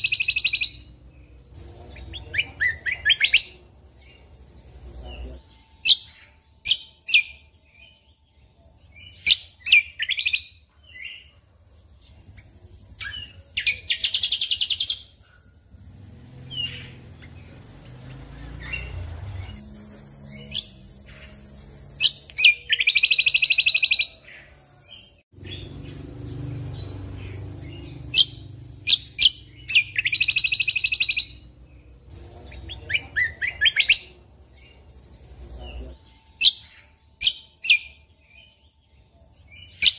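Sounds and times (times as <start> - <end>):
buzzy bird trills: 0.0 - 39.9
songbird chirping: 0.0 - 39.9.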